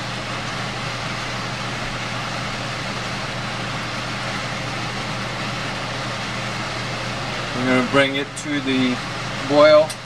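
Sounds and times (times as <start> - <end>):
constant low hum: 0.0 - 10.0
fan whirring: 0.0 - 10.0.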